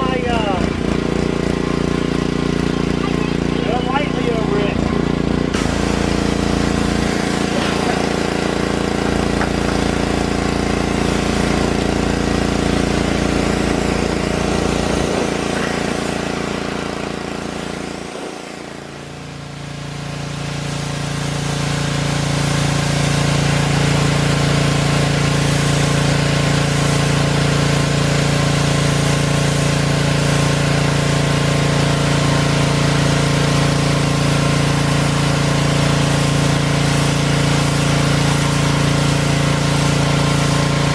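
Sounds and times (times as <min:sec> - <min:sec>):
pressure washer engine running: 0:00.0 - 0:40.9.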